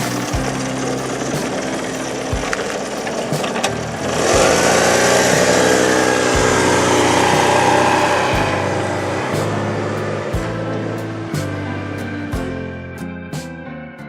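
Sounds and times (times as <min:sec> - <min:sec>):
motorcycle engine revving: 0:00.0 - 0:12.7.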